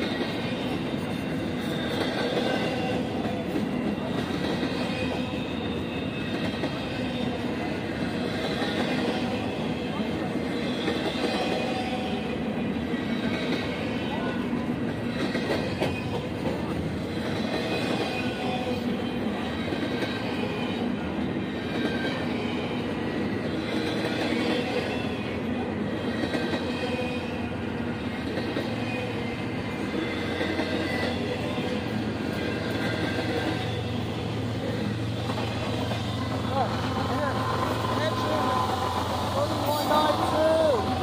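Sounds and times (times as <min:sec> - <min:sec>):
low diesel locomotive drone: 0:00.0 - 0:41.0
wheels rumbling on rail: 0:00.0 - 0:41.0.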